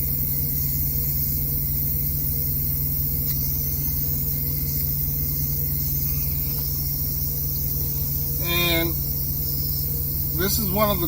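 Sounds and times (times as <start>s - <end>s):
low constant hum: 0.0s - 11.0s.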